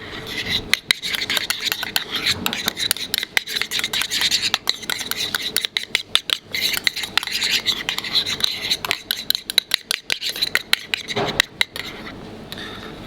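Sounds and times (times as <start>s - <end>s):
utensil scraping a bowl: 0.0s - 13.0s.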